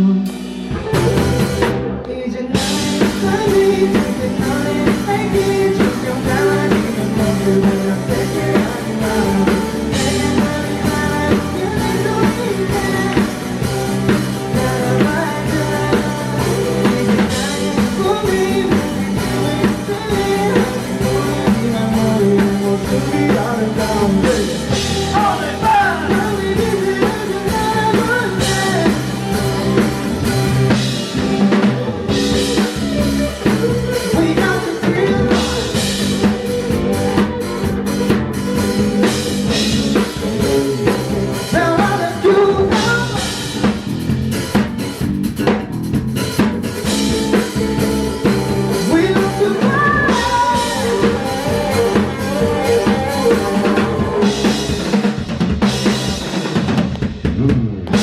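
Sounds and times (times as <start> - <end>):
drum kit snare and bass drum: 0.0 - 58.0
rock band playing live: 0.0 - 58.0.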